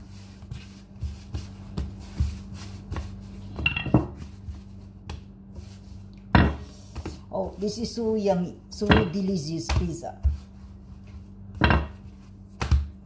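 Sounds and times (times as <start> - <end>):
steady low hum: 0.0 - 13.0
dough thumping on countertop: 0.3 - 7.3, 8.8 - 13.0.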